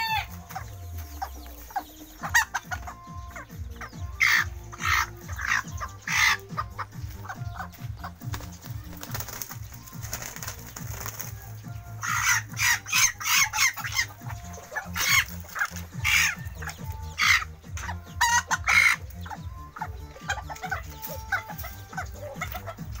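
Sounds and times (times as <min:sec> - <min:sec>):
chicken clucks and chirps: 0:00.0 - 0:23.0
chickens squawking: 0:00.0 - 0:23.0.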